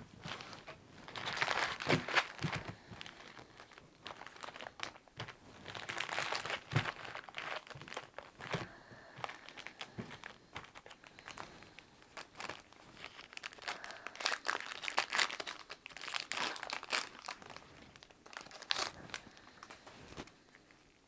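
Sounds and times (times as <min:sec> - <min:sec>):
wrappers crinkling and tearing: 0:00.2 - 0:20.3.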